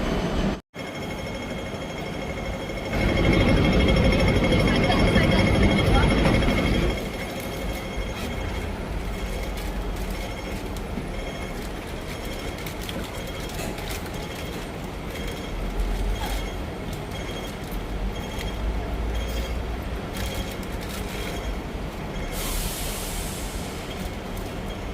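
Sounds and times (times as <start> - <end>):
tram rumbling on rails: 0.0 - 24.9.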